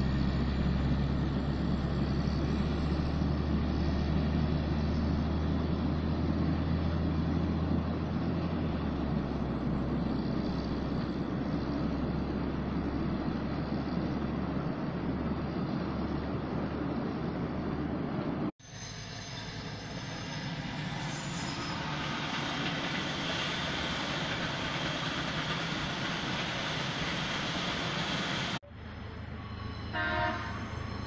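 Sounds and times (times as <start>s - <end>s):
diesel locomotive engine hum: 0.0s - 31.0s
train cars rumbling on rails: 0.0s - 31.0s.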